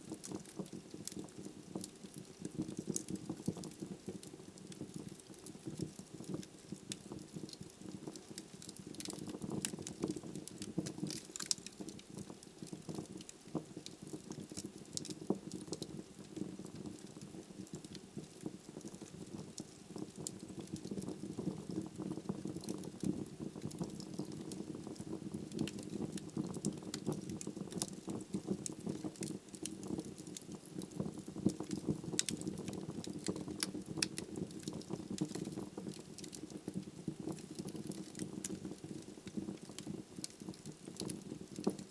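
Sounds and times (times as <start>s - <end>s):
wood crackling and popping: 0.0s - 41.9s
fire burning: 0.1s - 41.9s.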